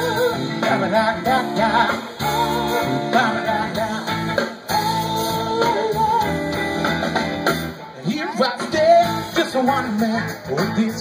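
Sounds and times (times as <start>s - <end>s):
drums: 0.0s - 11.0s
electric guitars: 0.0s - 11.0s
wavering lead guitar line: 0.0s - 11.0s.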